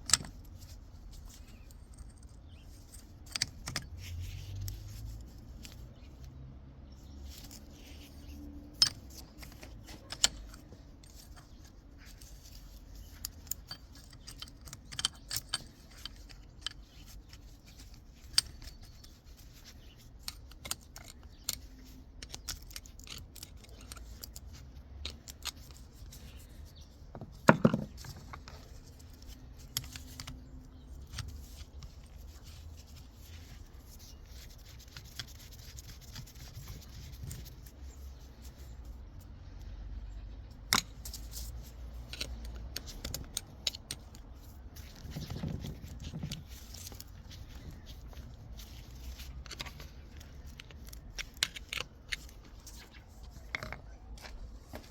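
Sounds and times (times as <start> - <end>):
metal parts clicking and scraping: 0.0 - 54.9.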